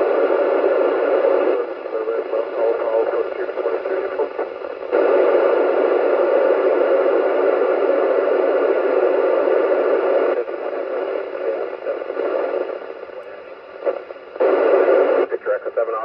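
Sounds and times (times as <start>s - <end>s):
radio receiver hiss: 0.0s - 16.0s.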